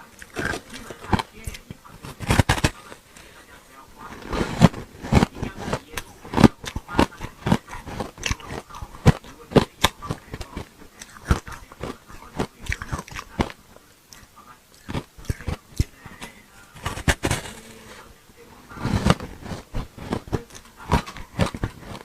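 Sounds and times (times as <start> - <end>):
ice being chewed: 0.0 - 3.4, 4.0 - 18.0, 18.8 - 22.0.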